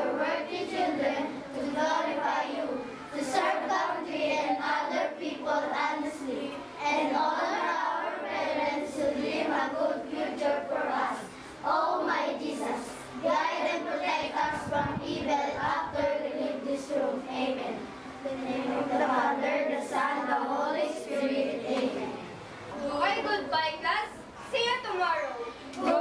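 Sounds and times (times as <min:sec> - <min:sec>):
children singing in unison: 0:00.0 - 0:22.3.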